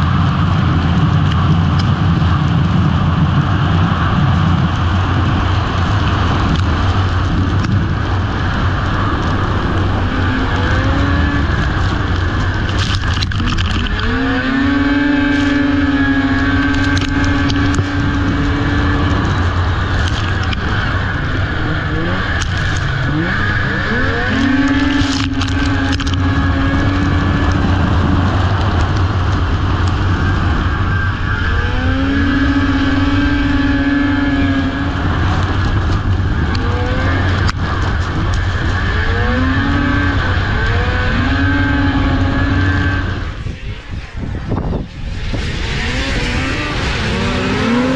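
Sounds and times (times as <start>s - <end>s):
snowmobile engine at high revs: 0.0s - 47.9s
wind rumble: 0.0s - 47.9s.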